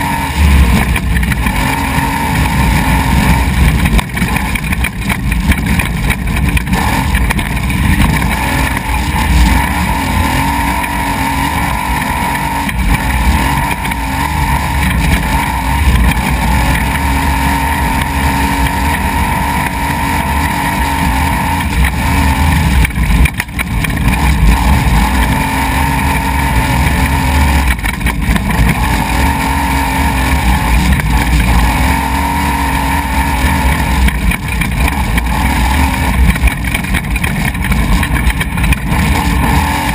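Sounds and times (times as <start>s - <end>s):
race truck engine: 0.0s - 39.9s
road noise over rocky track: 0.0s - 39.9s.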